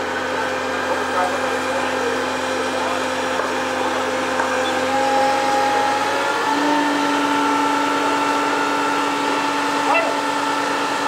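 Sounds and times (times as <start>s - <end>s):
engine and hydraulic pump whine: 0.0s - 11.0s.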